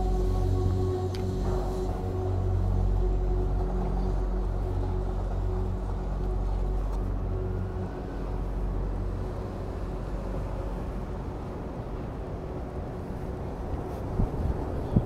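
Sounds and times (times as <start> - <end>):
engine hum: 0.0 - 15.0
low traffic rumble: 0.0 - 15.0.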